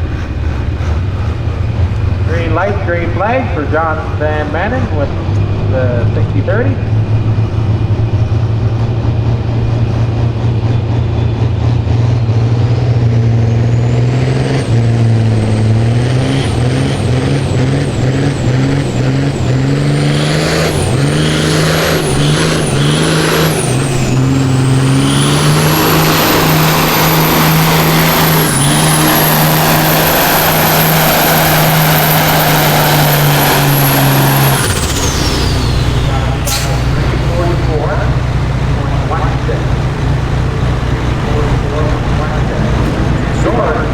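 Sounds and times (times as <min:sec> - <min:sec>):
high turbo whine: 0:00.0 - 0:43.9
tractor diesel engine at full load: 0:00.0 - 0:43.9.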